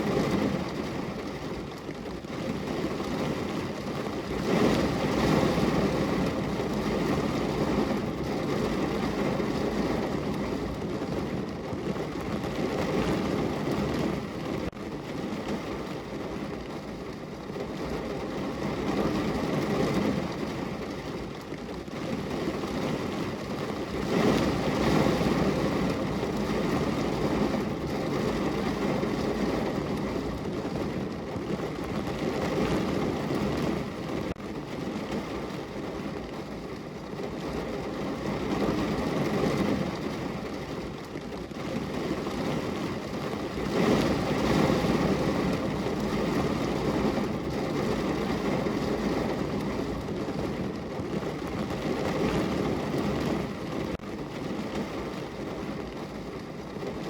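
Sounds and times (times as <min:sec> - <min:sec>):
heavy rain drumming on car roof: 0:00.0 - 0:57.0.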